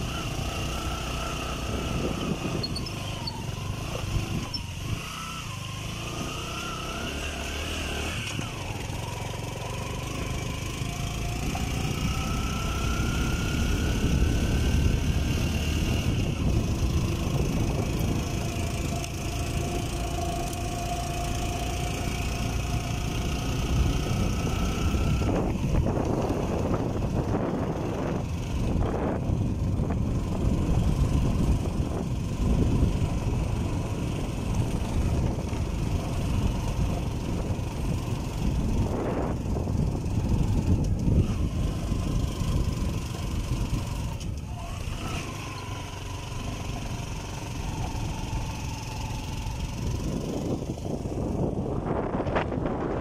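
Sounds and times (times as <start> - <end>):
motorcycle running: 0.0 - 53.0
road and wind rumble: 0.0 - 53.0.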